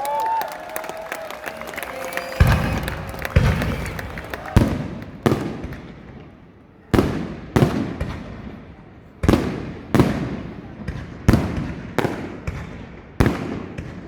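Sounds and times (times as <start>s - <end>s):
fireworks bursting with echo: 1.4s - 14.0s.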